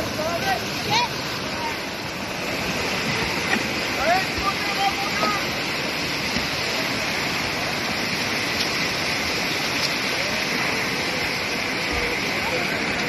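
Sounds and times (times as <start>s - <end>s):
whitewater rapids rushing: 0.0s - 13.0s.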